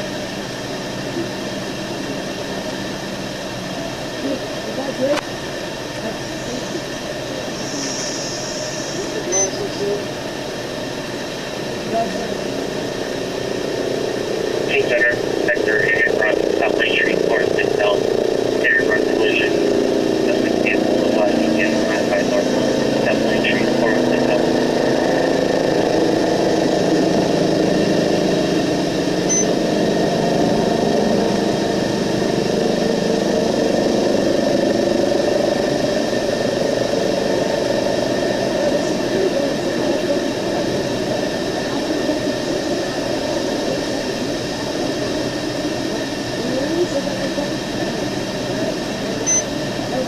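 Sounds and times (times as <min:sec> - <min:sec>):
road noise: 0:00.0 - 0:50.0
vehicle engine: 0:00.0 - 0:50.0.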